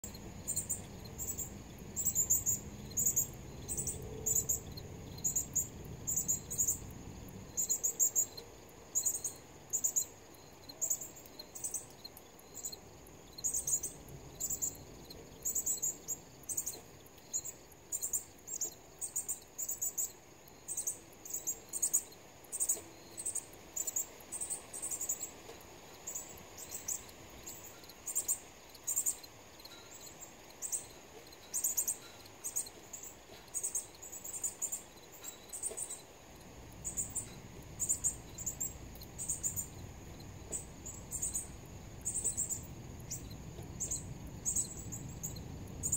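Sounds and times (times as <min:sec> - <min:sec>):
insect chirping: 0:00.0 - 0:45.9.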